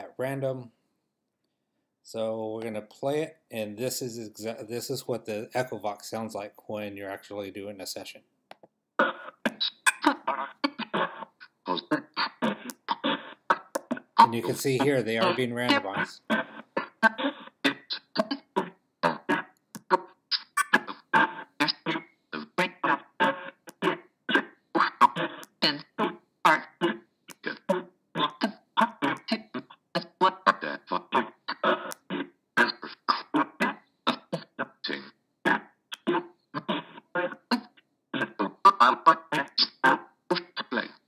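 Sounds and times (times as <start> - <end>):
chopped voice fragments: 0.0 - 0.7, 2.1 - 8.2, 9.0 - 41.0.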